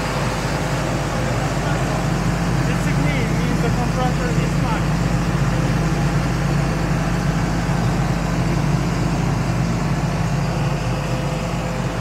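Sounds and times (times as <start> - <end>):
air compressor diesel engine running: 0.0 - 12.0.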